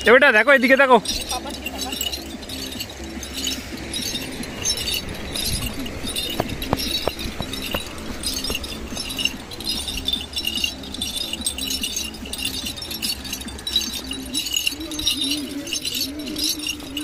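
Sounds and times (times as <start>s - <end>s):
small bells jingling: 0.0s - 17.0s.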